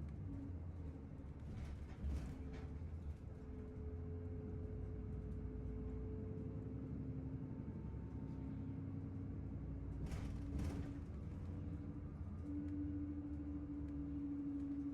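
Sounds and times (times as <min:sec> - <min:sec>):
bus engine rumble: 0:00.1 - 0:14.9.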